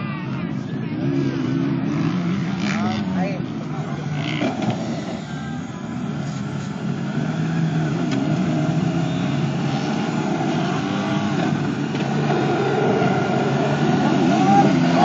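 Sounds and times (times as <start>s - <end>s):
car engine revving under load: 0.9s - 15.0s.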